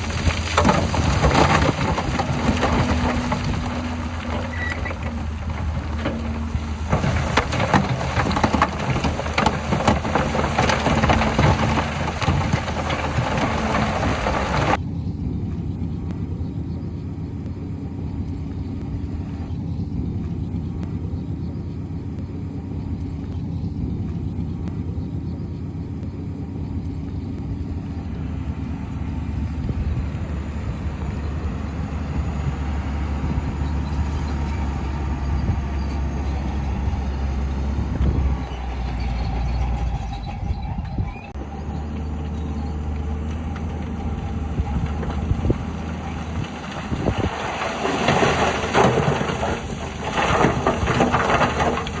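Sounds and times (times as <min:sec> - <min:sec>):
low diesel rumble of machinery: 0:00.0 - 0:52.0.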